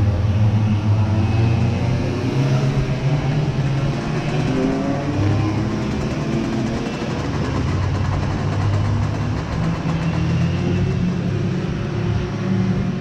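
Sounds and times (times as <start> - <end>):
racing kart engine running: 0.0 - 13.0.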